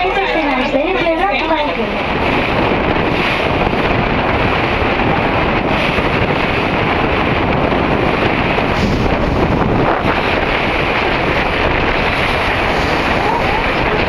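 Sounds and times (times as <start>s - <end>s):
boat engine running: 0.0s - 14.0s
water wash: 0.0s - 14.0s
wind buffeting microphone: 0.0s - 14.0s.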